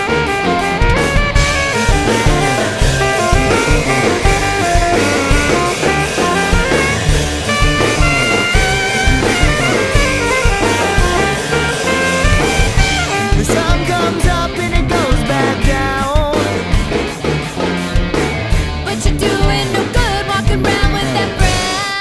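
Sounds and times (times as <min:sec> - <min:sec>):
bass notes: 0:00.0 - 0:21.8
drum kit beat: 0:00.0 - 0:22.0
lead melody line: 0:00.0 - 0:22.0
rock band playing: 0:00.0 - 0:22.0.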